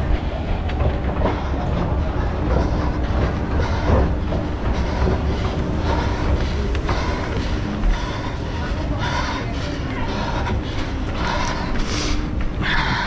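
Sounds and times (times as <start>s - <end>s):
rumbling movement noise: 0.0s - 13.0s
running footsteps: 0.0s - 13.0s.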